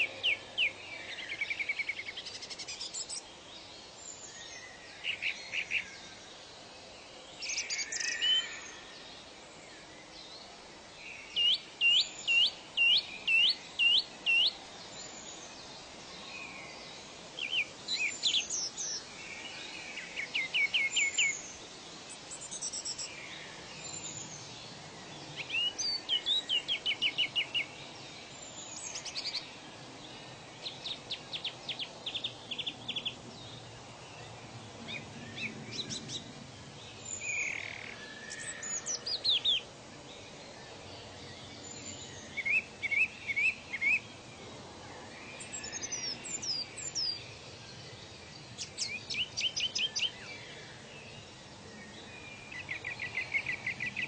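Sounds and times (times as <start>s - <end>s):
birds chirping and trilling: 0.0s - 6.4s, 7.0s - 54.0s
faint background hiss: 0.0s - 54.0s.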